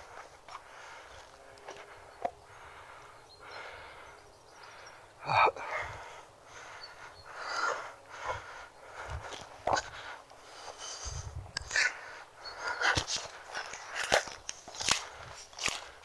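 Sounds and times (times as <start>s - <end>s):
rustling through vegetation: 0.0s - 5.1s, 6.0s - 16.0s
person breathing: 0.0s - 14.1s
soft footsteps outdoors: 0.0s - 16.0s.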